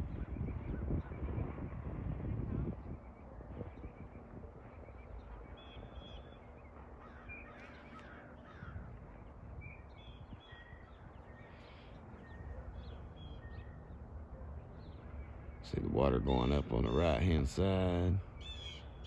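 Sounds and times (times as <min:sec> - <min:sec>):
birds calling: 0:03.1 - 0:19.0.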